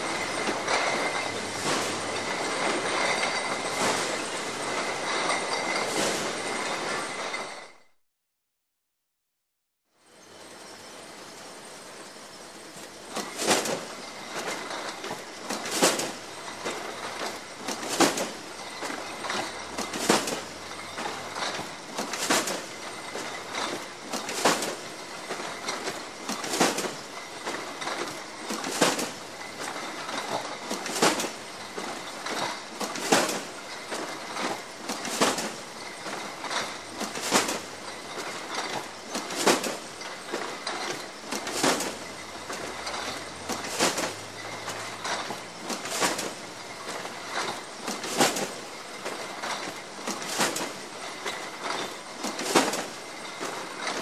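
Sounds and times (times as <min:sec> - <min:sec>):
bottles rattling and clinking: 0:00.0 - 0:07.8, 0:13.1 - 0:54.0.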